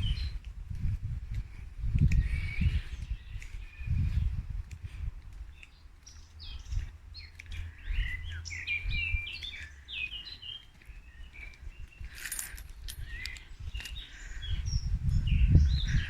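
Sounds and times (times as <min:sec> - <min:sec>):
birds chirping and trilling: 0:00.0 - 0:00.4, 0:01.5 - 0:16.0
wind rumble on microphone: 0:00.0 - 0:16.0.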